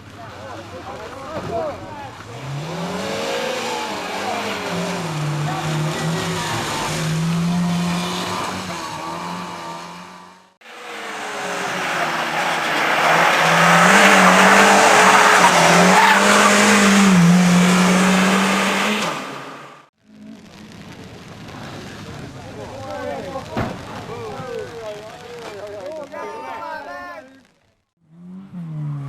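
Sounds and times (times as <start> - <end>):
race car engines revving: 0.0 - 23.4, 28.0 - 29.0.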